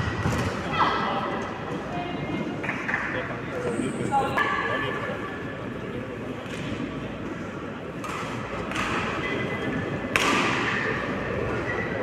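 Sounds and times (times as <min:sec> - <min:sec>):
sports hall murmur: 0:00.0 - 0:12.0.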